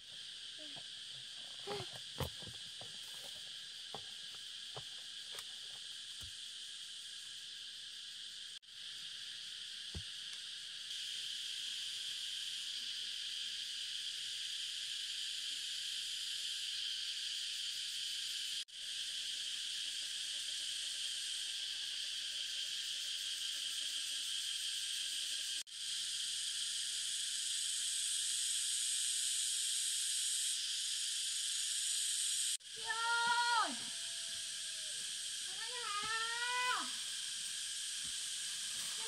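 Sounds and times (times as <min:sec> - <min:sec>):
forest insects droning: 0:00.0 - 0:39.0.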